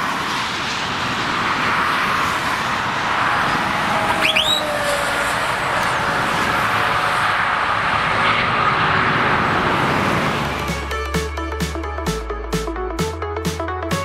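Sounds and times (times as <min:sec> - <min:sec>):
traffic noise: 0:00.0 - 0:14.0
truck driving past: 0:01.5 - 0:12.8.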